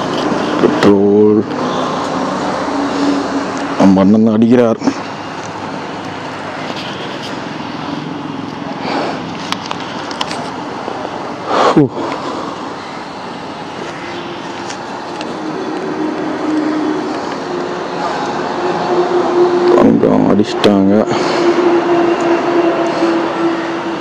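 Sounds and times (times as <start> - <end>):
steady road traffic: 0.0 - 24.0
vehicle passing by: 0.0 - 24.0.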